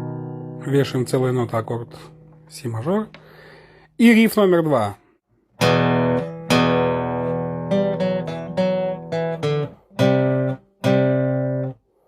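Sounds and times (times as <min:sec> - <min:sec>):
guitar riff: 0:00.0 - 0:03.7, 0:05.6 - 0:11.8.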